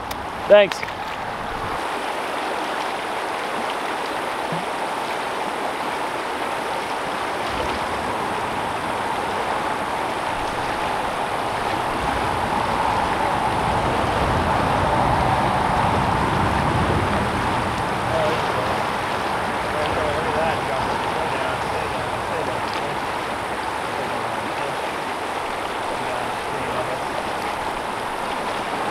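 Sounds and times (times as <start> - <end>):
river water rushing over rocks: 0.0 - 28.9.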